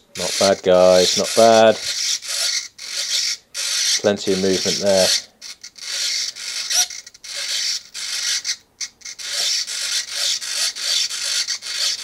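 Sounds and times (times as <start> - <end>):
small servos whirring: 0.0 - 12.0.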